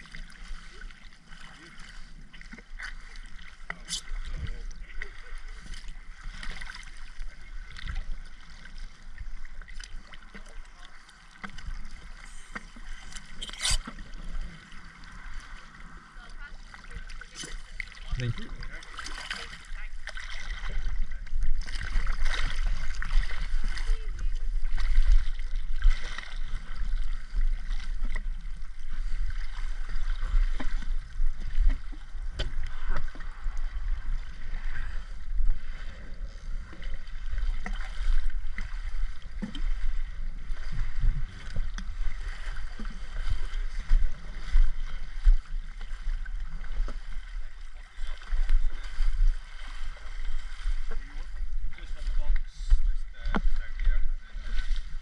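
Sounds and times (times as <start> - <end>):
rushing bubbling water: 0.0 - 55.0.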